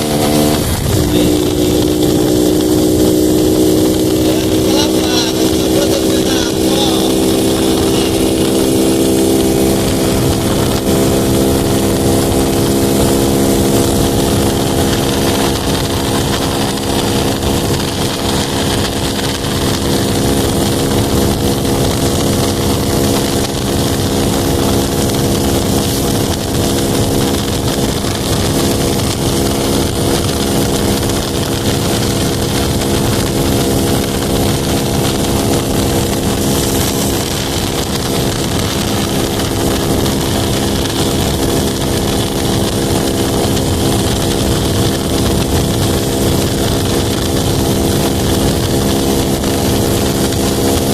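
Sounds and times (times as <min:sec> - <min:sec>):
motorcycle engine running steadily: 0:00.0 - 0:50.9.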